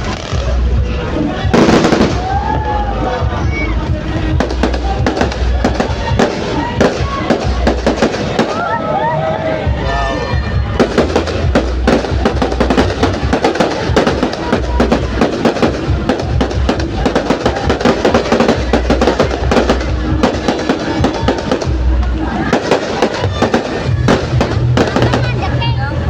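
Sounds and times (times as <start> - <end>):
fireworks crackling and popping: 0.0 - 2.8, 3.4 - 9.0, 10.3 - 26.0
loud music with heavy bass beat: 0.0 - 8.7, 9.7 - 25.8.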